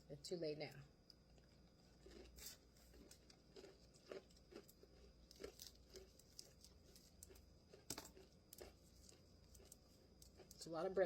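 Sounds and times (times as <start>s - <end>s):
person chewing crunchy food: 1.1s - 11.0s.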